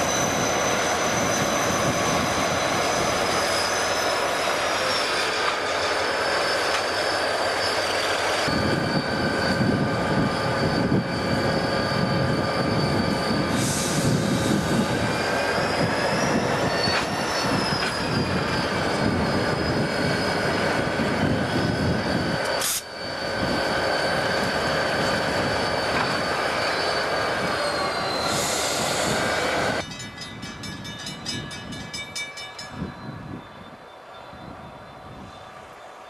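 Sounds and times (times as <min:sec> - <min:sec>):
train rumble: 0:00.0 - 0:36.0
train wheels squealing: 0:00.0 - 0:36.0.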